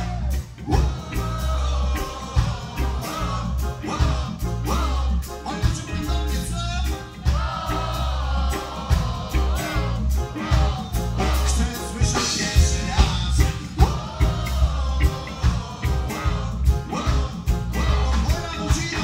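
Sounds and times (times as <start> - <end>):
heavy pulsing bass line: 0.0 - 19.0
live reggae band playing: 0.0 - 19.0
man singing: 0.0 - 19.0.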